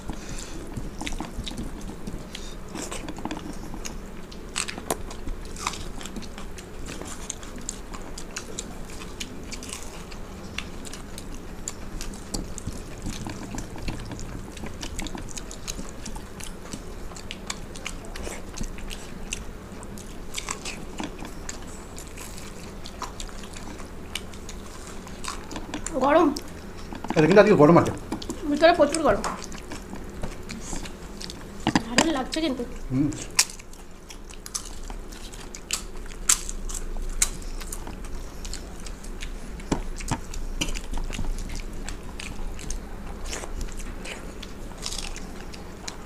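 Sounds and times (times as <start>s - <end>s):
crunching and chewing: 0.0s - 46.0s.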